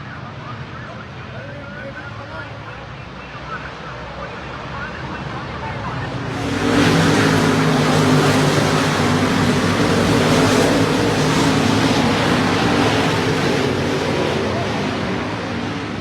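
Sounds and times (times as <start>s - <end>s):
race car engines running loud: 0.0s - 16.0s.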